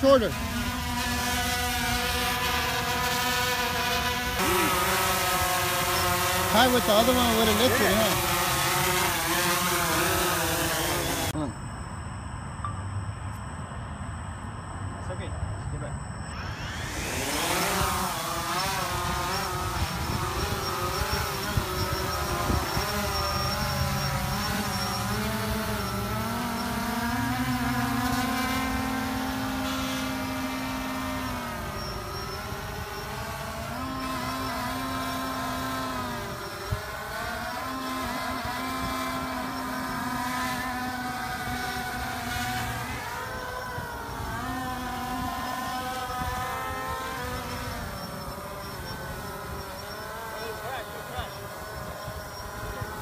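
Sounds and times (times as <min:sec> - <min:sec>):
drone propellers whining: 0:00.0 - 0:53.0.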